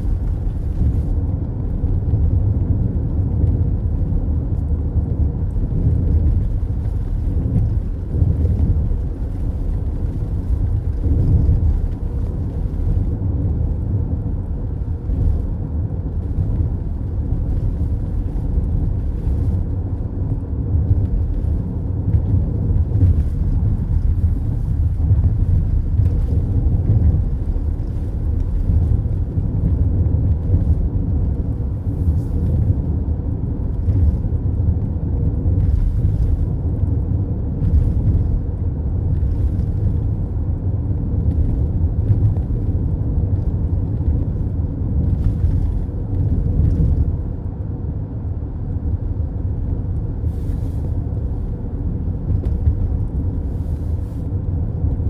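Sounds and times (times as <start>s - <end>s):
car road and tyre noise: 0.0s - 55.0s.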